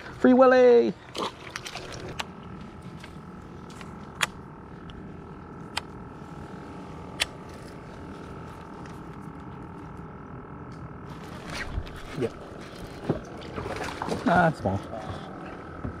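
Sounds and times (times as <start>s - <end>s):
electric motor humming: 1.6s - 16.0s.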